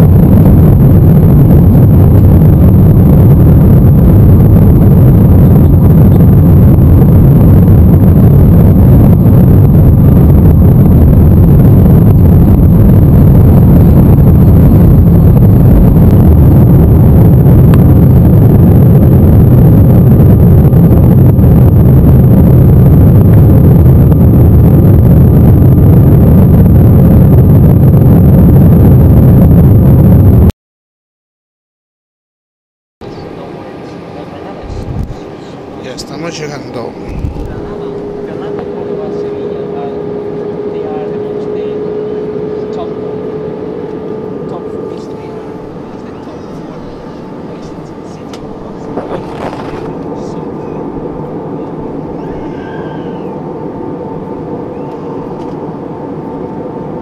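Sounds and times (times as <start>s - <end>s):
airliner rolling down runway: 0.0s - 30.5s, 33.0s - 57.0s
jet engines at takeoff thrust: 0.0s - 30.5s, 33.0s - 57.0s.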